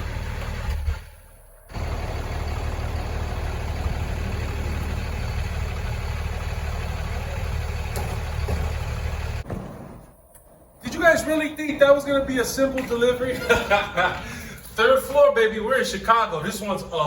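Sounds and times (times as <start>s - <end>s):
vehicle engine idling: 0.0s - 14.9s.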